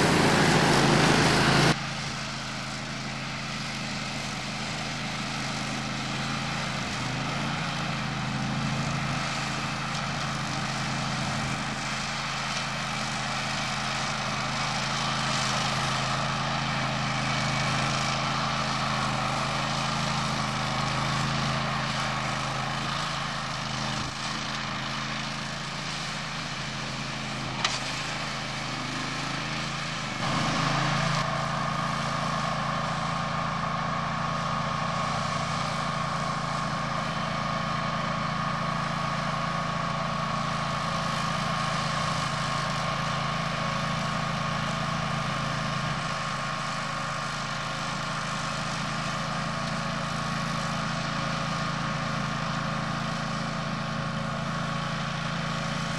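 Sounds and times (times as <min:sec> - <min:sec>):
ride-on mower cutting grass: 0:00.0 - 0:55.9.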